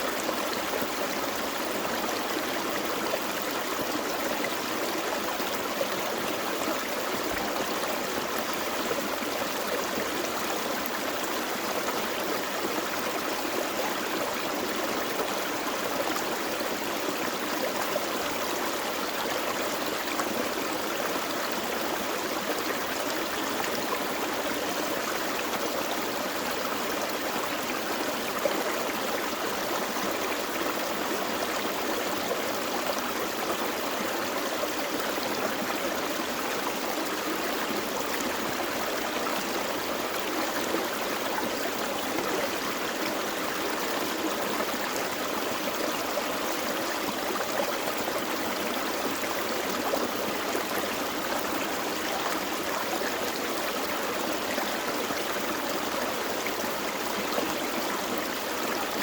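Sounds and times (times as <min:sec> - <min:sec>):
creek flowing over rocks: 0:00.0 - 0:59.0.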